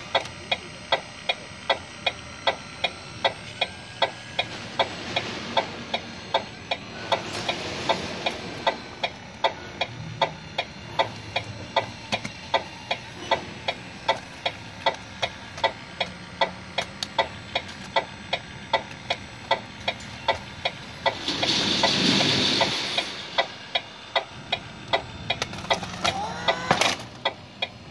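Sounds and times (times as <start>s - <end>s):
rc excavator mechanical ticking: 0.0s - 27.9s.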